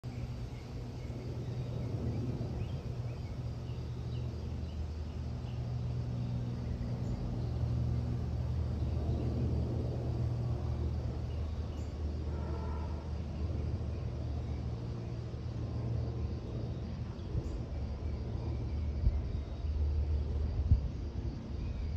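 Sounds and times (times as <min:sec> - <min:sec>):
jet engine whine: 0:00.0 - 0:21.9
jet plane rumble: 0:00.0 - 0:21.9.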